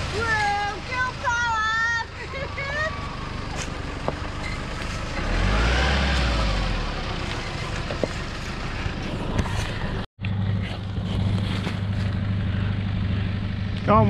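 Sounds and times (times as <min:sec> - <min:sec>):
engine idling hum: 0:00.0 - 0:14.0
four-wheel drive engine revving: 0:00.0 - 0:14.0.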